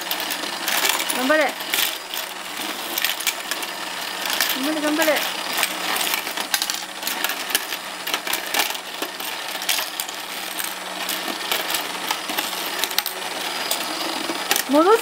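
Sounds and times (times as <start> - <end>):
plastic pieces clattering: 0.0 - 15.0
small toy motor humming: 0.0 - 15.0.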